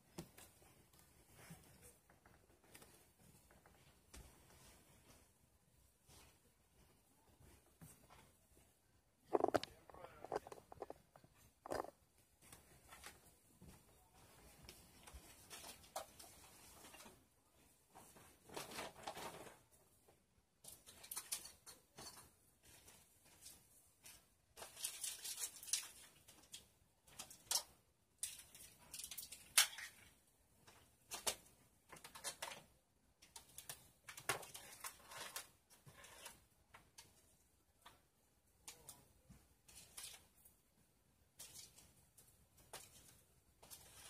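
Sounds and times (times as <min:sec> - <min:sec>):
household items rustling and clattering: 0:00.0 - 0:44.0.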